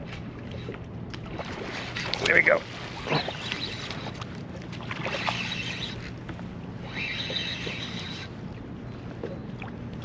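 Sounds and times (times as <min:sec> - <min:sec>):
water lapping around a kayak: 0:00.0 - 0:10.0.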